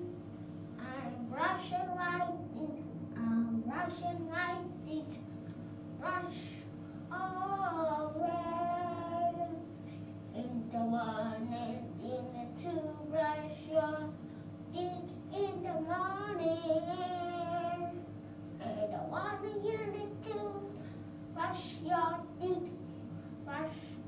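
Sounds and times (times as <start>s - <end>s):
child singing: 0.8s - 5.2s, 6.0s - 9.6s, 10.4s - 14.1s, 14.7s - 20.8s, 21.4s - 22.8s, 23.5s - 24.0s.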